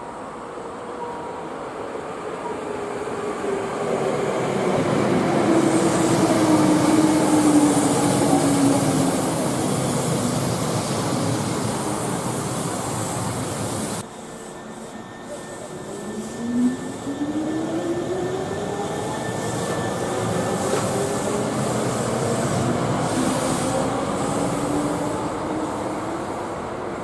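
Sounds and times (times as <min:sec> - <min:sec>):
train passing at speed: 0:00.0 - 0:27.0.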